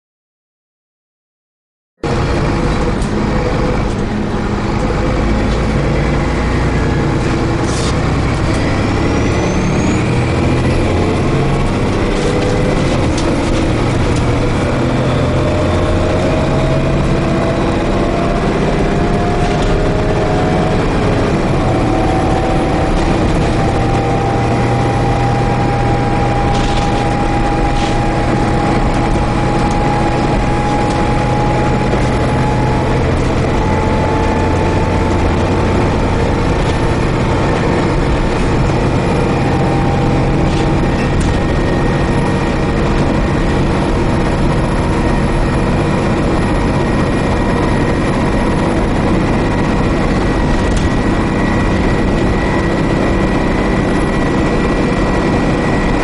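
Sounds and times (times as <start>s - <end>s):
bus engine drone with whine: 2.0s - 56.0s.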